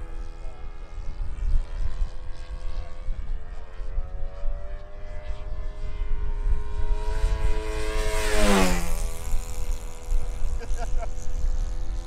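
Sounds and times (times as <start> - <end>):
model airplane motor and propeller: 0.0 - 12.0
wind rumble on microphone: 0.0 - 12.0.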